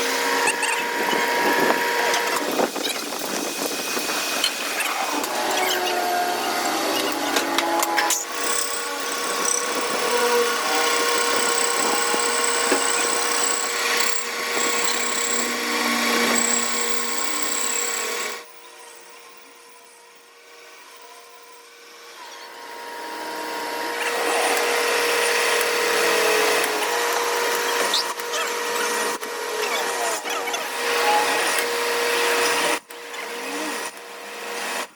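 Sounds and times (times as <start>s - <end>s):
power tool whining: 0.0s - 34.9s.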